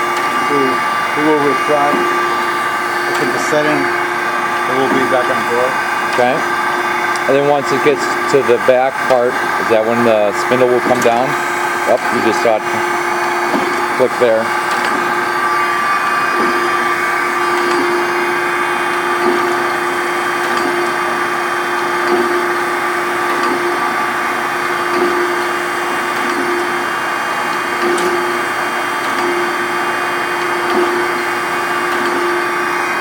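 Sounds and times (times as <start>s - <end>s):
grinder steady hum: 0.0s - 33.0s.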